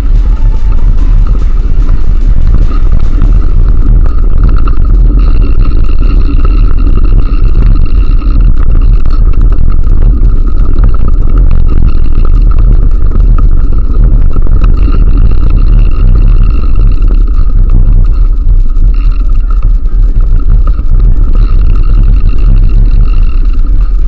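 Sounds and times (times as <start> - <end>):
faint ticking: 0.0 - 24.0
steady high whine: 0.0 - 24.0
wind rumble on microphone: 0.0 - 24.0.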